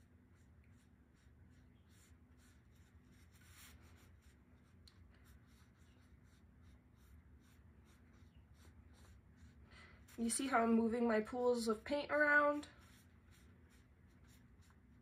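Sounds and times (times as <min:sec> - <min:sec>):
low steady hum: 0:00.0 - 0:15.0
paintbrush strokes on paper: 0:00.0 - 0:15.0.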